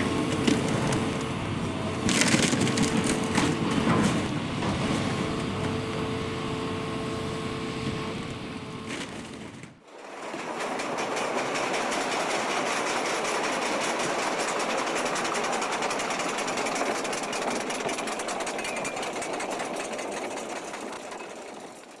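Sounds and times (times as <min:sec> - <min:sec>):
demolition machinery hammering: 0:00.0 - 0:06.2, 0:08.9 - 0:22.0.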